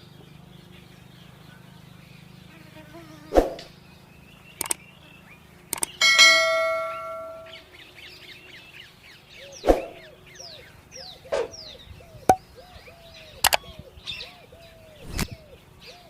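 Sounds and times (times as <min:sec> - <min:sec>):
birds chirping: 0:00.0 - 0:16.0
lower bird call: 0:00.0 - 0:16.0.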